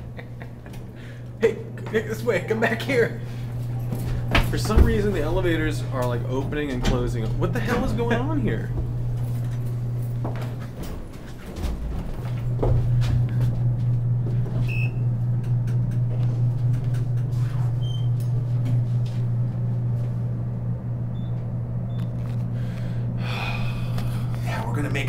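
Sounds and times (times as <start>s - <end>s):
elevator humming: 0.0s - 25.0s.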